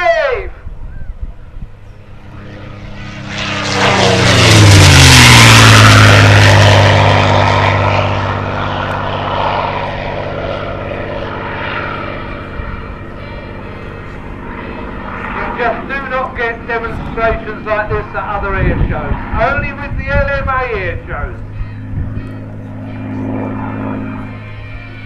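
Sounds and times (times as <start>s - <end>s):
propeller aircraft passing: 0.0s - 25.0s.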